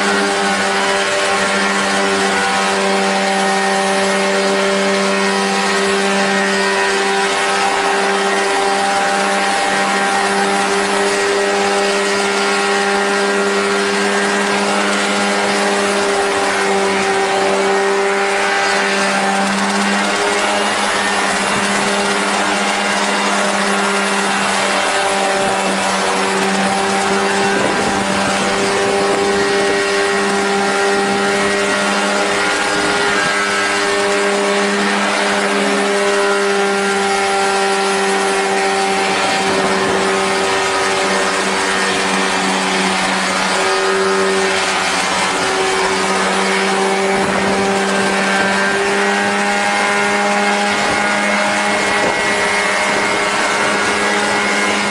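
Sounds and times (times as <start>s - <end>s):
aircraft engine running: 0.0s - 54.9s.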